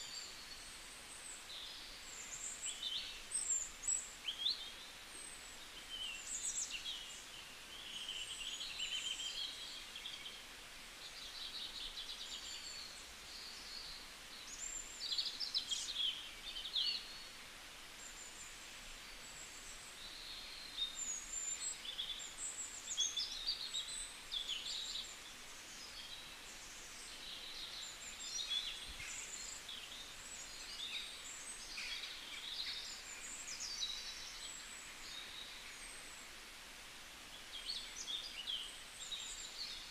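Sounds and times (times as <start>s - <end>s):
faint steady hiss: 0.0s - 39.9s
small birds chirping: 0.0s - 39.9s.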